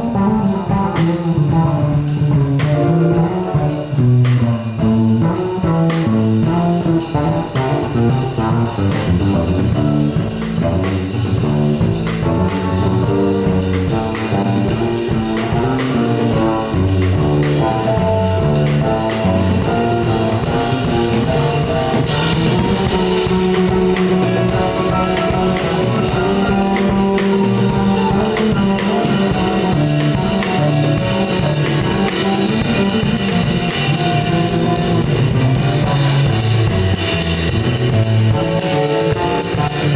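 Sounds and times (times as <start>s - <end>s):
jazz band playing: 0.0s - 39.9s
steady drum beat: 0.0s - 39.9s.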